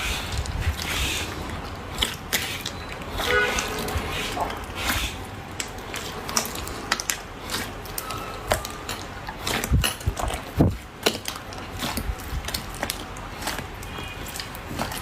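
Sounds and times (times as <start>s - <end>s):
slime squished by hand: 0.0s - 15.0s.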